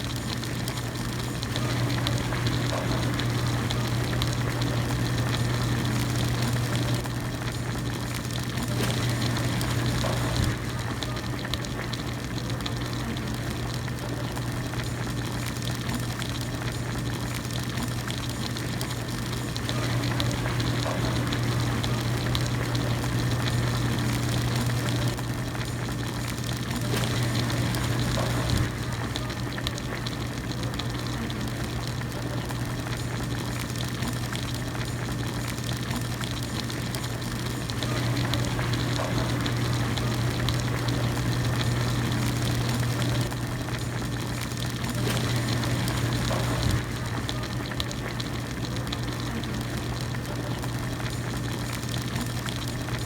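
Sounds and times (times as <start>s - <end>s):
broth boiling and bubbling: 0.0s - 53.0s.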